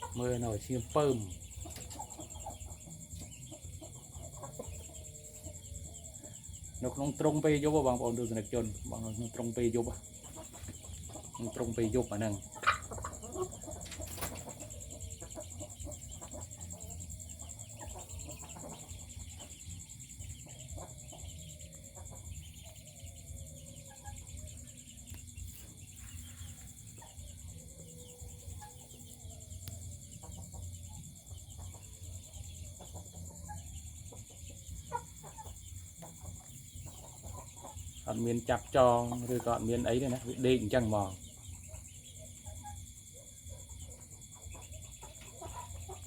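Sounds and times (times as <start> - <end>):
chickens clucking softly: 0.0 - 46.0.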